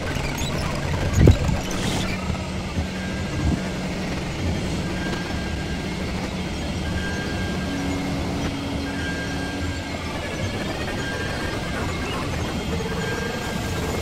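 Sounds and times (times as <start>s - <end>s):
dense electronic rumbling drone: 0.0s - 14.0s
faint high whistling tones: 0.0s - 14.0s
higher held electronic tone: 2.0s - 14.0s.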